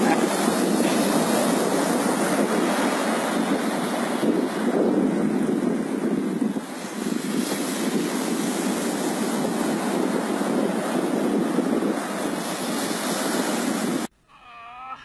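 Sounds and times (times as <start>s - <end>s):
surf breaking on beach: 0.0s - 14.1s
wind on microphone: 0.0s - 14.1s.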